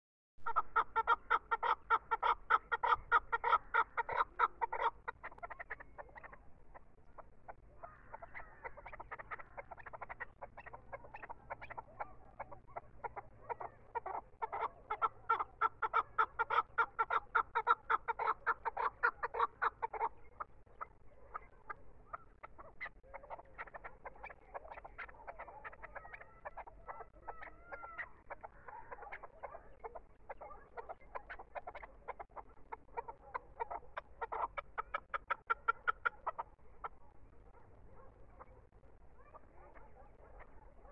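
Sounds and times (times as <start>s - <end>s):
partridge clucking calls: 0.4s - 40.9s.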